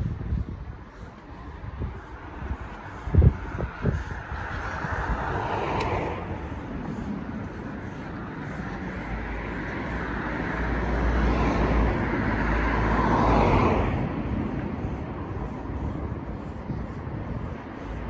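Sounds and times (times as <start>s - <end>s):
road traffic noise: 0.0s - 18.0s
car passing by: 1.3s - 18.0s.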